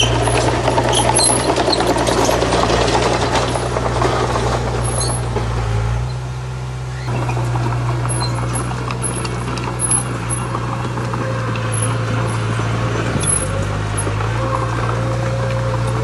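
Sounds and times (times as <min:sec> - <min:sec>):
knocks and rattles: 0:00.0 - 0:06.0, 0:07.1 - 0:16.0
diesel engine running: 0:00.0 - 0:16.0.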